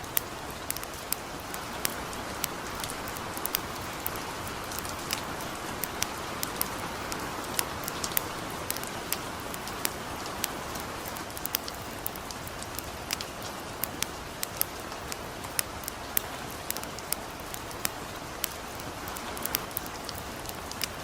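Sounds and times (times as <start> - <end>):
campfire crackling and popping: 0.0 - 21.0
light rain hissing: 0.0 - 21.0.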